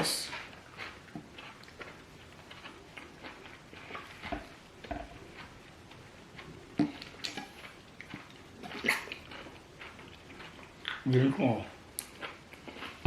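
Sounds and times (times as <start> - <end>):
chewing and mouth noises: 0.1 - 13.0.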